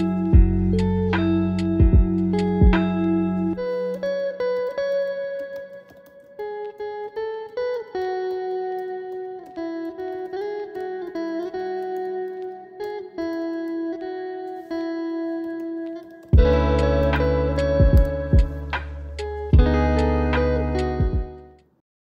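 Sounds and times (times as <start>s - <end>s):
slow plucked guitar melody: 0.0s - 21.7s.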